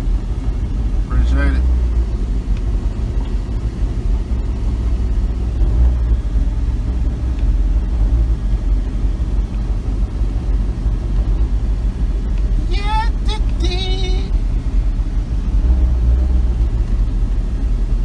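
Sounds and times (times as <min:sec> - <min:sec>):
pickup truck driving slowly: 0:00.0 - 0:18.0.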